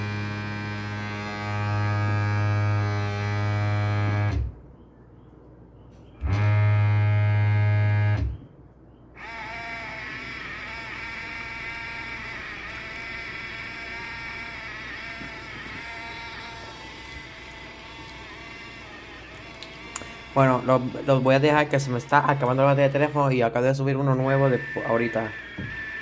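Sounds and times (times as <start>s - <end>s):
low electric hum: 0.0s - 26.0s.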